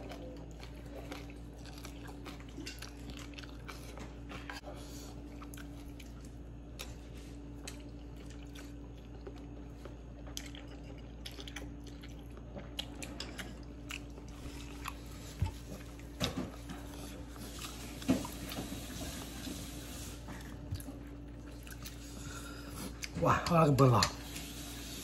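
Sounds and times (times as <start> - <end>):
man chewing and slurping noodles: 0.0 - 23.2.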